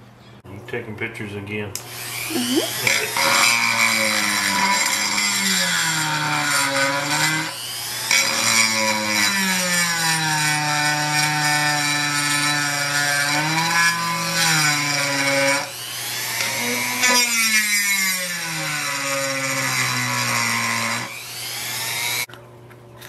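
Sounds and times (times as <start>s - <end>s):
rotary tool grinding clay: 2.1s - 22.3s.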